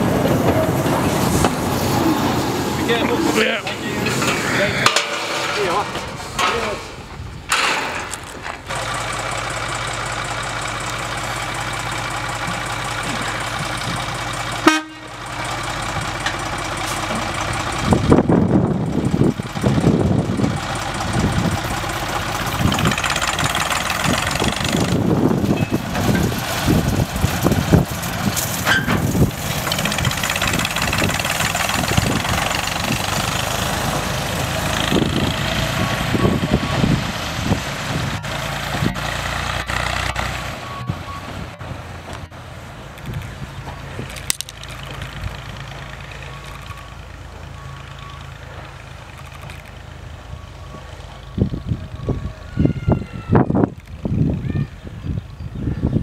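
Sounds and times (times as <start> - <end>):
diesel locomotive engine running: 0.0 - 56.0
low buffeting: 0.0 - 56.0.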